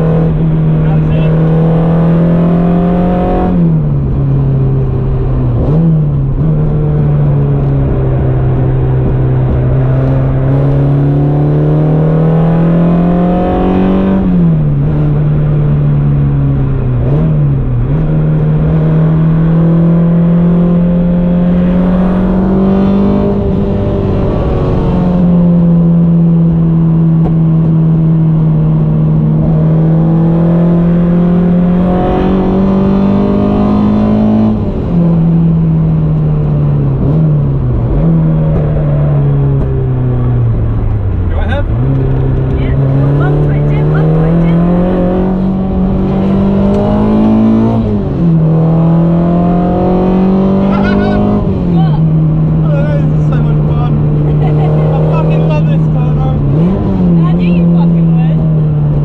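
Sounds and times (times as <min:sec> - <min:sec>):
car engine revving high: 0:00.0 - 0:59.0
road and tyre noise: 0:00.0 - 0:59.0.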